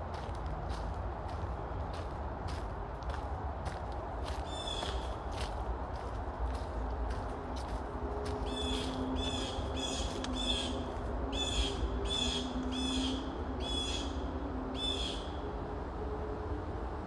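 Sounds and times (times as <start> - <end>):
highway traffic rumble: 0.0 - 17.0.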